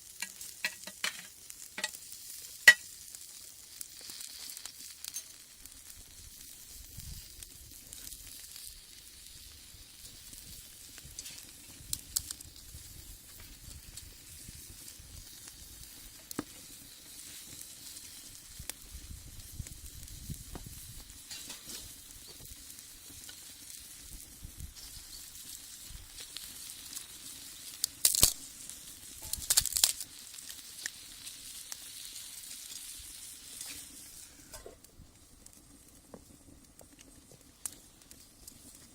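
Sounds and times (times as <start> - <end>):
food sizzling in a skillet: 0.0 - 38.9.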